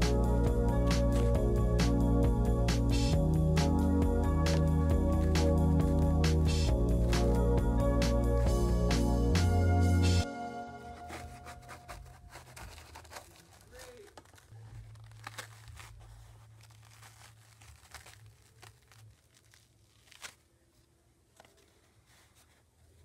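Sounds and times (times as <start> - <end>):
paper crackling and rustling: 0.0 - 2.1, 2.7 - 7.4, 10.9 - 23.0.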